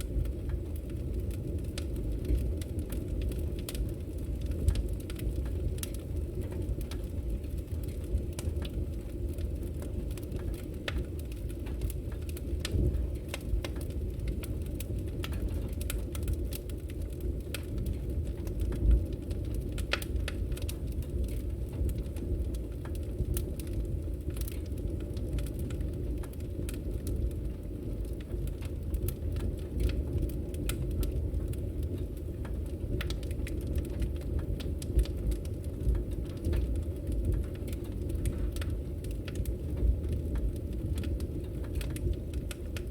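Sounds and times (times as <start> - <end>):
bonfire flames rushing: 0.0 - 42.9
burning wood crackling: 0.0 - 42.9.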